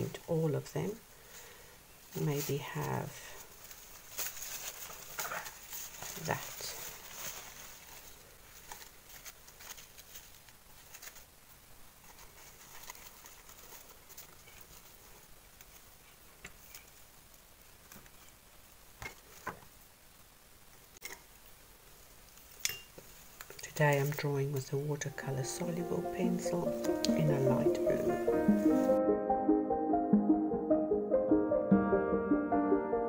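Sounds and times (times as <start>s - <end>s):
stems rustling against paper: 0.0s - 19.8s, 22.2s - 29.0s.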